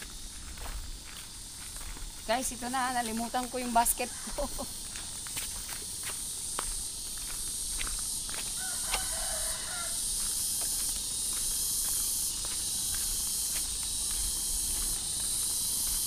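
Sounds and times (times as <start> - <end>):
footsteps on dirt path: 0.0 - 16.0
high-pitched hiss: 0.0 - 16.0.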